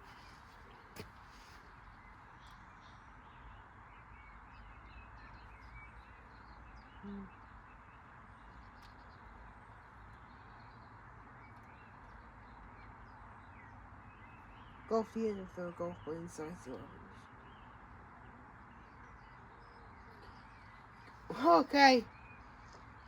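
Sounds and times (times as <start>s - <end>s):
outdoor background noise: 0.0s - 23.0s
small birds chirping: 0.0s - 23.0s.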